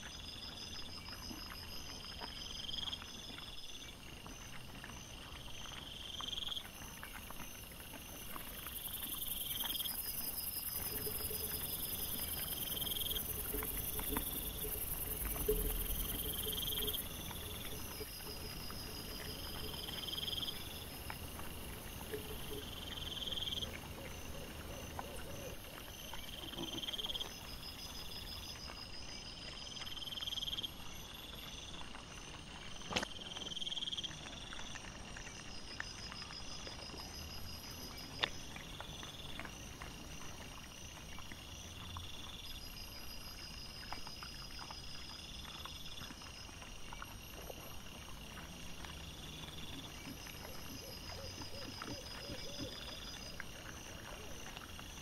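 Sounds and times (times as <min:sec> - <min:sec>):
insects pulsing chirps: 0:00.0 - 0:34.5, 0:35.1 - 0:55.0
insects buzzy trills: 0:00.0 - 0:55.0.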